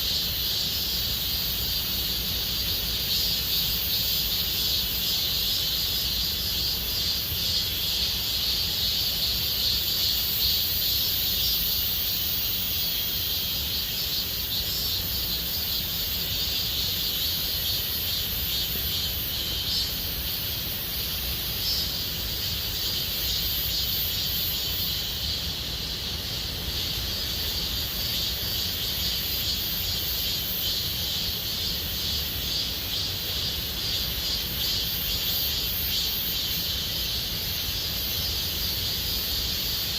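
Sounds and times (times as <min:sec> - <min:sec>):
cicadas buzzing chorus: 0:00.0 - 0:39.9.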